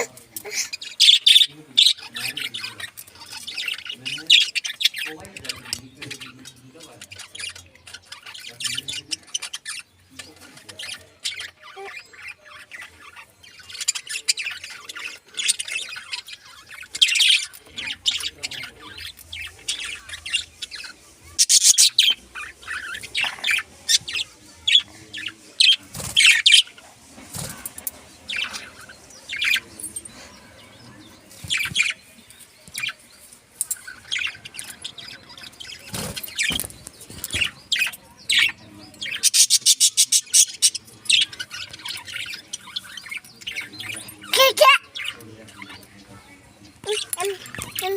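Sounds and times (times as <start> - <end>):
budgerigars and finches chirping: 0.0 - 47.9.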